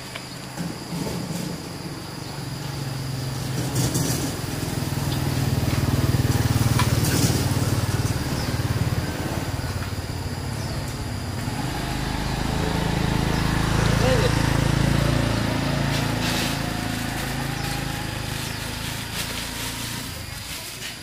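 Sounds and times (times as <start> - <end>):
small engine running: 2.4 - 21.0.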